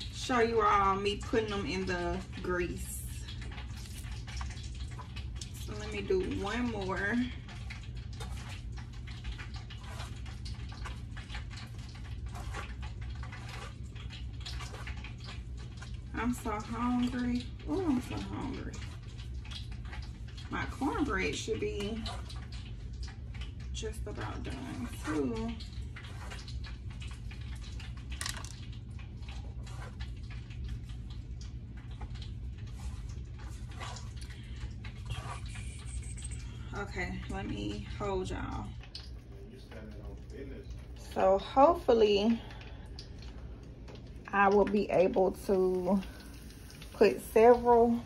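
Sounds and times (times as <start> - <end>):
low steady hum: 0.0 - 48.0
grease sizzling and popping: 1.0 - 36.2, 36.8 - 48.0.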